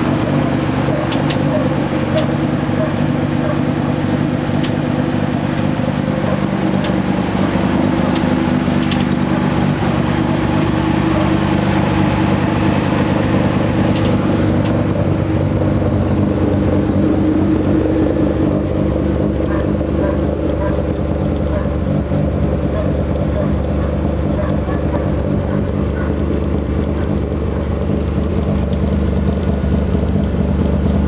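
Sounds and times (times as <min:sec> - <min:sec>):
rotary engine idling: 0:00.0 - 0:31.0.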